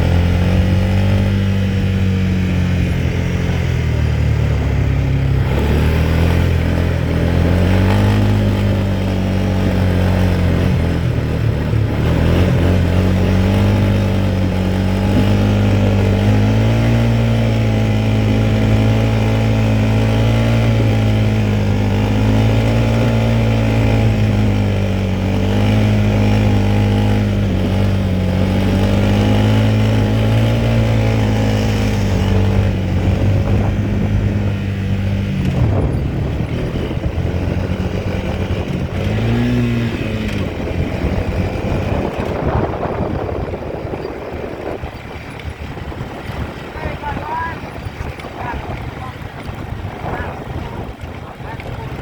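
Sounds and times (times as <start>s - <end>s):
quad bike engine running: 0.0s - 52.0s.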